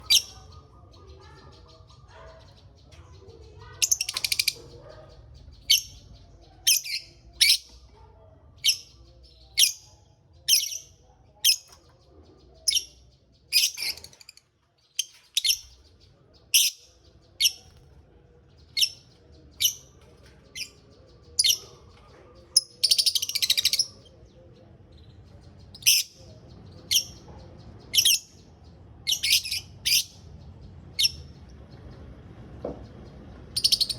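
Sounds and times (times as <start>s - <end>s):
birds chattering: 0.0s - 33.9s
birds chirping: 0.0s - 33.9s.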